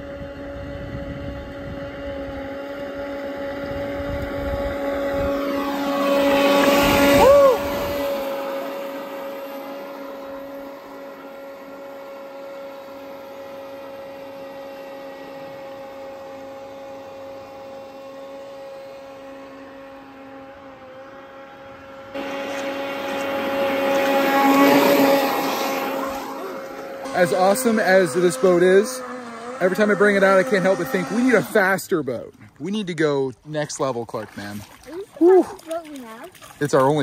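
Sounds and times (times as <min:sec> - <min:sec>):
rc boat motor whine: 0:00.0 - 0:32.3.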